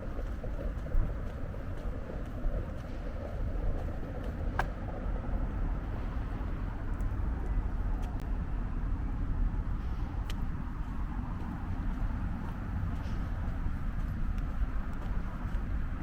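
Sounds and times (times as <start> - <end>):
vehicle traffic: 0.0 - 16.0
wind on microphone: 0.0 - 16.0.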